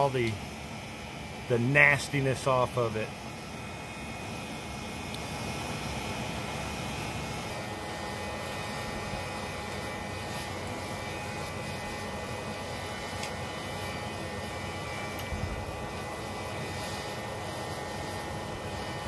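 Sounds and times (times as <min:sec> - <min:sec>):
air blower whine: 0:00.0 - 0:19.0
forge fire and forced air rushing: 0:00.0 - 0:19.0.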